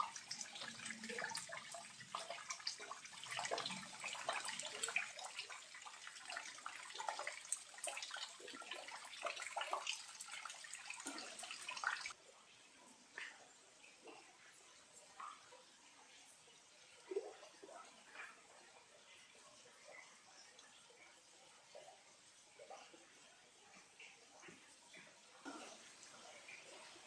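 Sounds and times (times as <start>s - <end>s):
small waterfall trickling: 0.0s - 27.0s.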